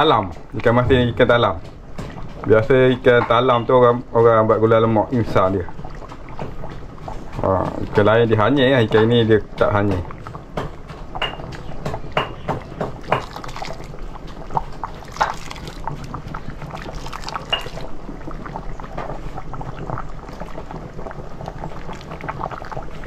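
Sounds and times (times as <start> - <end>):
curry bubbling in a pot: 0.0 - 23.0.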